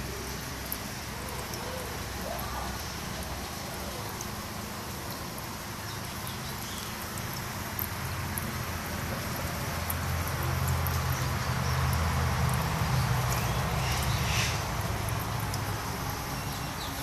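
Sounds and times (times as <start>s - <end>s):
faint water drips: 0.0s - 17.0s
waterfall trickling over rocks: 0.0s - 17.0s.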